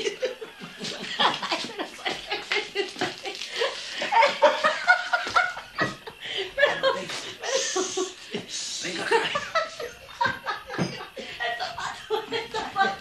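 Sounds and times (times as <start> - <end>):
group of people laughing: 0.0 - 13.0.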